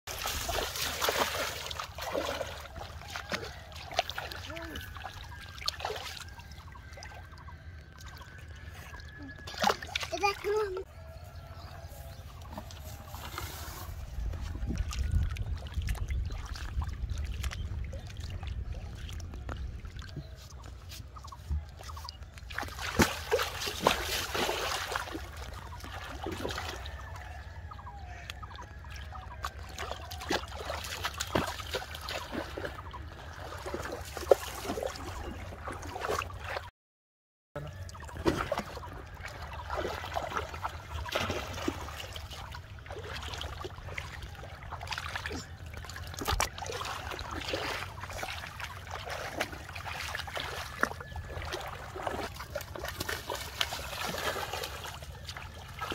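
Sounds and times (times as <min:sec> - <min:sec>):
river water splashing: 0:00.1 - 0:10.9, 0:11.8 - 0:36.7, 0:37.7 - 0:55.9.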